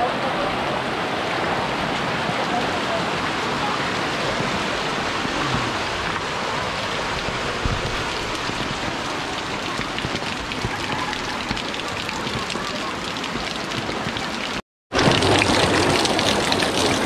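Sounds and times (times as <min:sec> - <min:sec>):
heavy rain: 0:00.0 - 0:17.0
rushing floodwater: 0:00.0 - 0:17.0.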